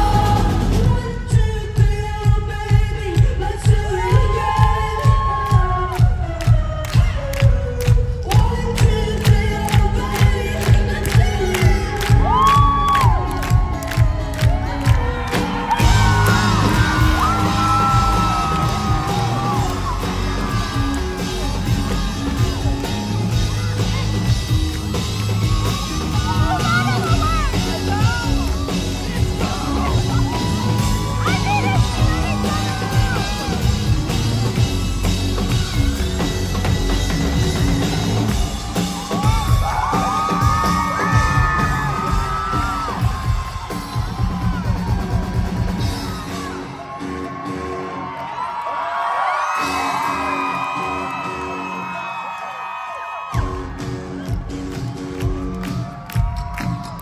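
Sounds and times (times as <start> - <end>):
drum beat: 0.0 - 46.6, 53.4 - 57.0
voices yelling and singing: 0.0 - 47.8
rock band playing loudly: 0.0 - 48.6, 53.3 - 57.0
crowd whooping: 3.8 - 7.3, 11.9 - 57.0.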